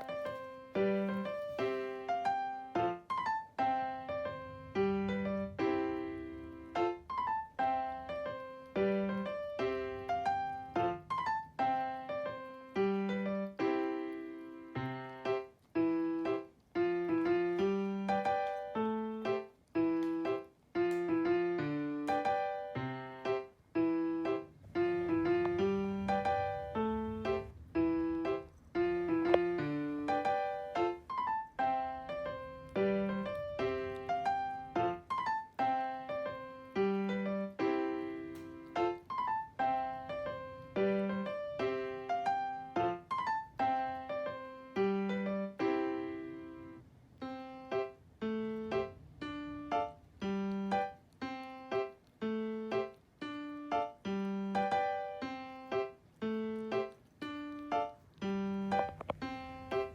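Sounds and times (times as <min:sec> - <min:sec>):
light piano melody: 0:00.0 - 0:59.9.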